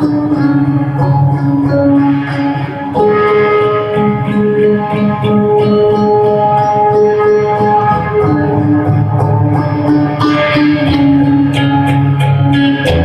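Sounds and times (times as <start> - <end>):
electric guitar through amplifier: 0.0 - 13.0
high ticking beat: 0.0 - 13.0.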